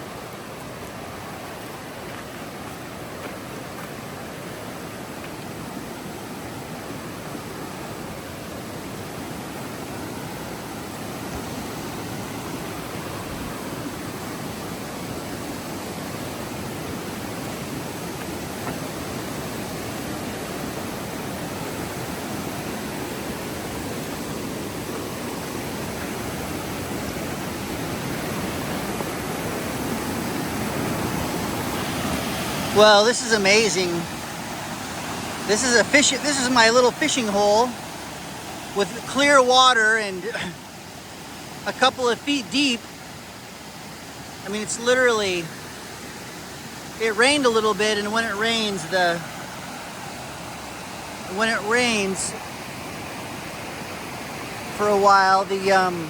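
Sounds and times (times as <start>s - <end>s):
river rushing in flood: 0.0s - 56.0s.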